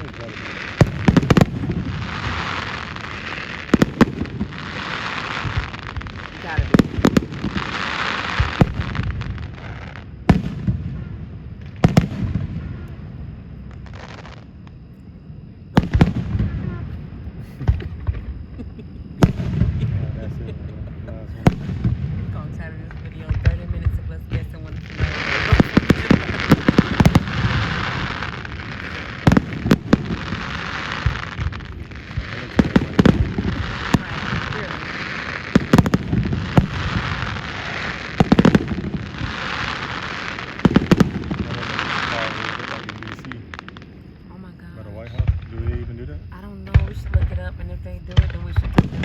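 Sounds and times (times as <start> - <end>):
crackling hiss of fireworks: 0.0 - 49.0
fireworks booming: 0.0 - 49.0.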